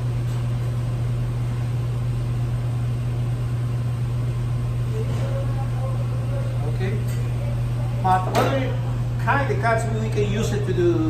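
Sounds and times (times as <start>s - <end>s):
kitchen mechanical hum: 0.0s - 11.0s.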